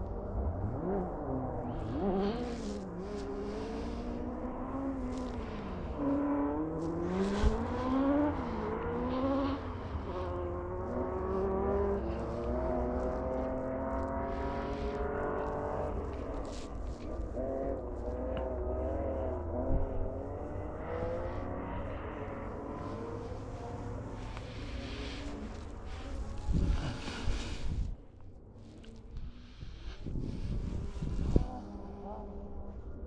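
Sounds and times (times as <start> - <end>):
rally car engine revving: 0.0 - 27.8, 28.6 - 33.0.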